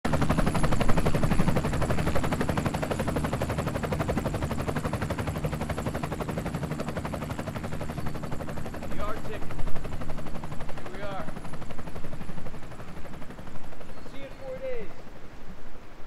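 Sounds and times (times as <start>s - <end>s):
helicopter rotor beating: 0.1s - 15.3s.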